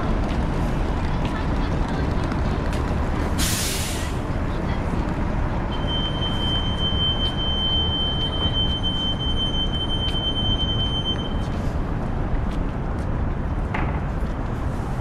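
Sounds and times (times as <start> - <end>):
low rumble of street noise: 0.0 - 15.0.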